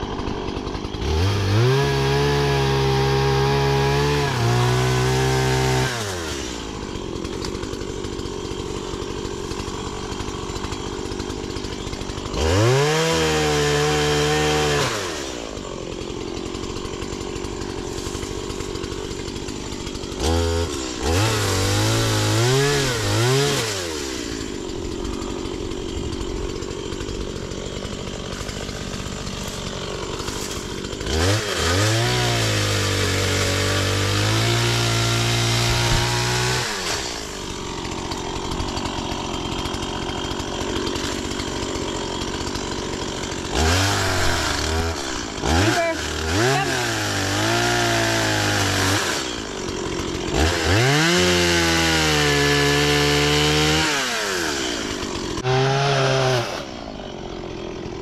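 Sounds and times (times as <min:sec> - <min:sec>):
chainsaw rattling idle: 0:00.0 - 0:58.0
chainsaw revving: 0:00.0 - 0:58.0.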